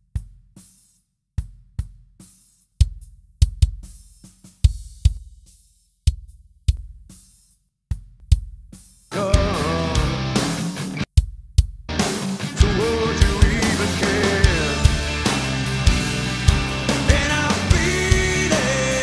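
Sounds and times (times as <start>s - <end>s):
snare and hi-hat hits: 0.0s - 19.0s.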